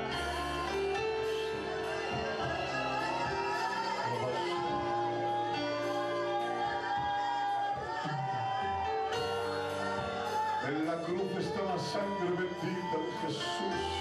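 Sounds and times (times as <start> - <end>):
person singing: 0.0 - 14.0.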